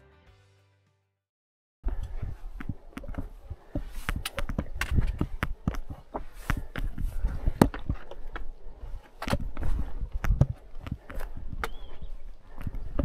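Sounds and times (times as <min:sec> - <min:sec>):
footsteps on rocky trail: 0:01.8 - 0:13.0.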